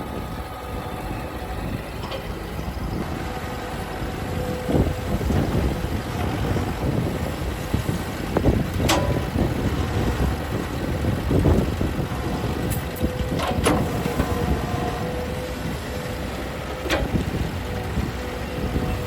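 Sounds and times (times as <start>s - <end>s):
heavy machine engine running: 0.0s - 19.0s
wind on microphone: 0.0s - 19.0s.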